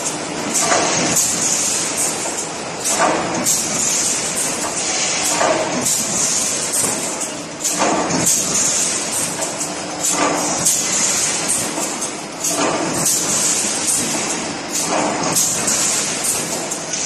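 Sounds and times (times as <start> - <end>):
machine hiss over low hum: 0.0 - 17.0.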